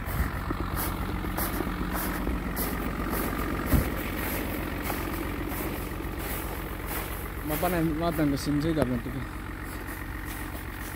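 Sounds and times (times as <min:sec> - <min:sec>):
diesel engine idling: 0:00.0 - 0:10.9.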